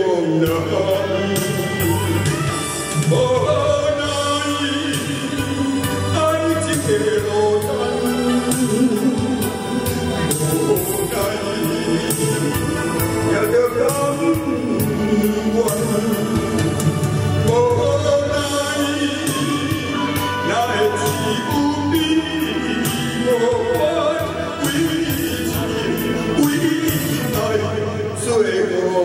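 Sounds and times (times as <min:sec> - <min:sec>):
man singing into a microphone: 0:00.0 - 0:29.0
music with a steady beat: 0:00.0 - 0:29.0.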